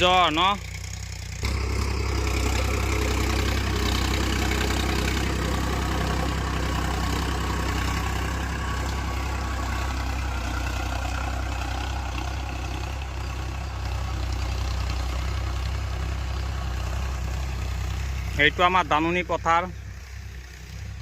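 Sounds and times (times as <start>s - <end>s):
tractor diesel engine humming: 0.0s - 21.0s.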